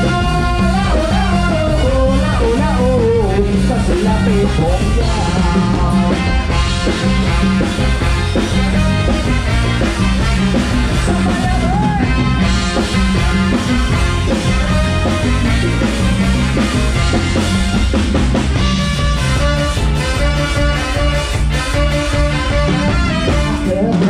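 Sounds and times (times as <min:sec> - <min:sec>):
drum kit: 0:00.0 - 0:24.0
keyboard melody: 0:00.0 - 0:24.0.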